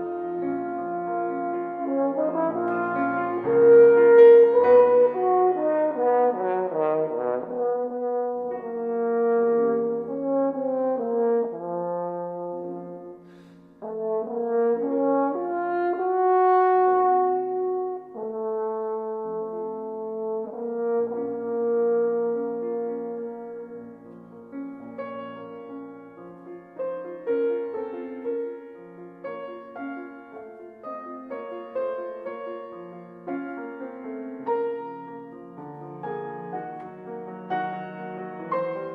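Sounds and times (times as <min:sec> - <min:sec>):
french horn melody: 0:00.0 - 0:38.9
piano accompaniment: 0:00.0 - 0:38.9.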